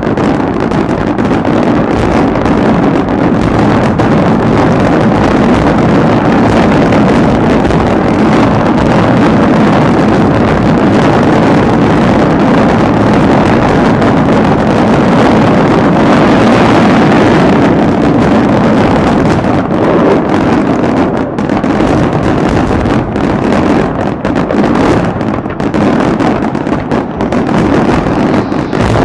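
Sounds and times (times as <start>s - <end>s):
fireworks bangs and crackle: 0.0s - 29.0s.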